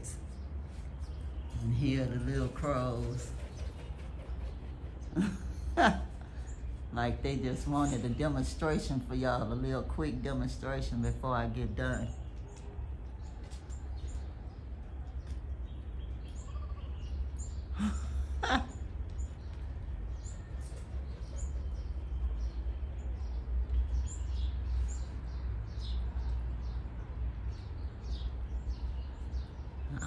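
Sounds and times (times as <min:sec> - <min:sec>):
harsh bird calls: 0:00.0 - 0:26.9
birds chirping: 0:00.0 - 0:30.0.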